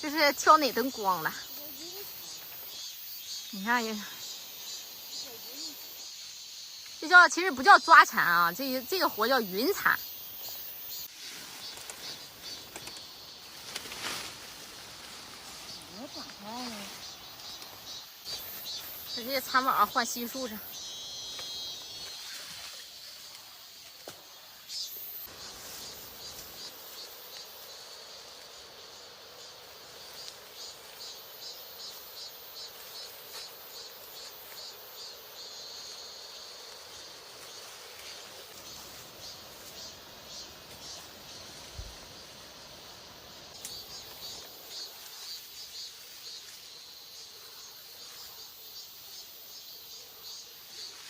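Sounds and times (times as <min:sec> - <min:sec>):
insects chirping: 0:00.0 - 0:51.0.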